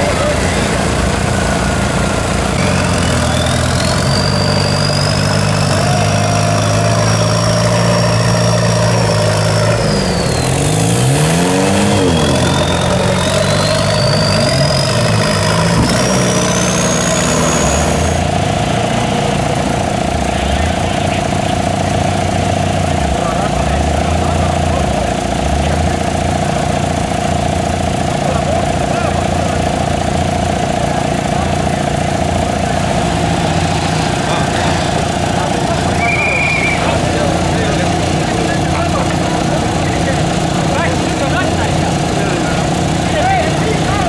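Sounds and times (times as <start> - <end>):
off-road engines under load: 0.0 - 44.0.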